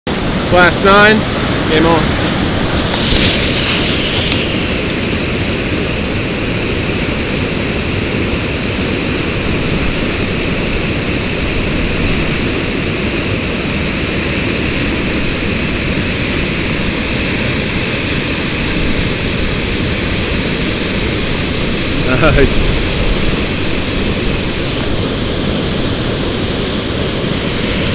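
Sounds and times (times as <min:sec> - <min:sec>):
river rapids rushing: 0:00.1 - 0:27.9.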